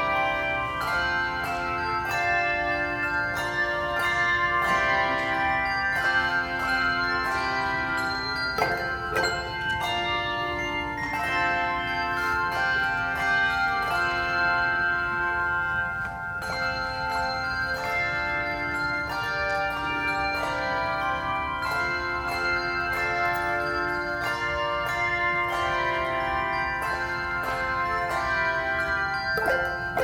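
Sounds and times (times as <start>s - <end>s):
handbells ringing: 0.0s - 30.0s.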